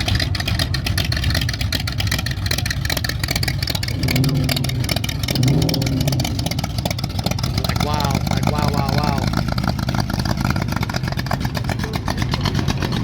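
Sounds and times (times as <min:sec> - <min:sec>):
car engine revving: 0:00.0 - 0:13.0
car engines rumbling low: 0:00.0 - 0:13.0.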